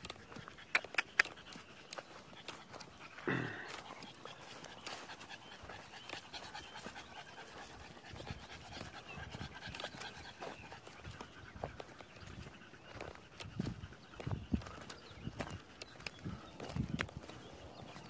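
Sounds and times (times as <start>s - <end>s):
dog panting: 0.0s - 16.7s
footsteps on muddy track: 0.0s - 18.0s.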